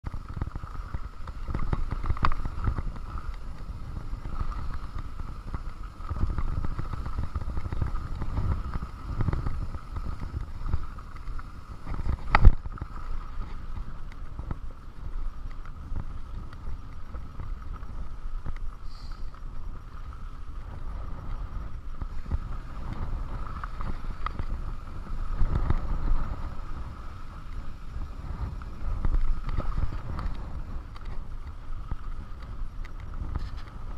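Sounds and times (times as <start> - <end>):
bike rattling over stones: 0.0 - 33.9
bike tyres rolling on gravel: 0.0 - 33.9
wind buffeting microphone: 0.0 - 33.9
thin steady whine: 0.1 - 33.9.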